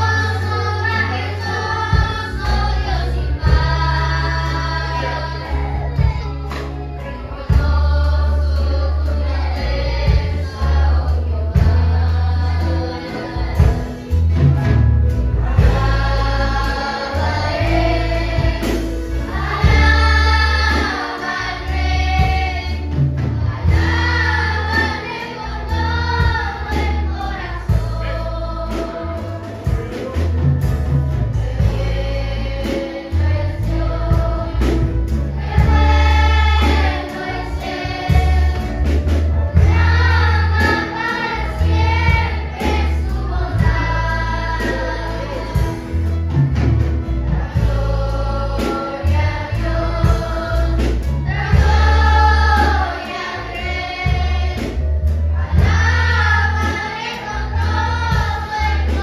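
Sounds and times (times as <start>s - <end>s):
children's choir singing: 0.0s - 59.0s
instrumental music with bass: 0.0s - 59.0s.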